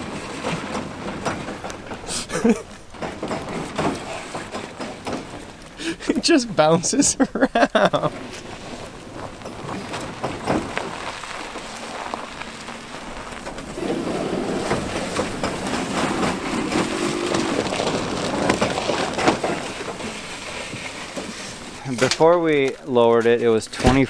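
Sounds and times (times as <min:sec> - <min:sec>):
tyres crackling over snowy gravel: 0:00.0 - 0:24.0.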